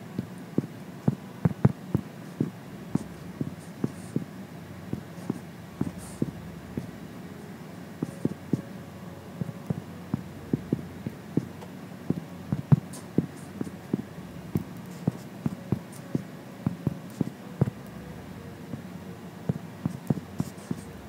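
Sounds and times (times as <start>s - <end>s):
fingertips tapping touchscreen: 0.2s - 7.0s, 7.9s - 8.8s, 9.4s - 18.0s, 18.7s - 21.0s.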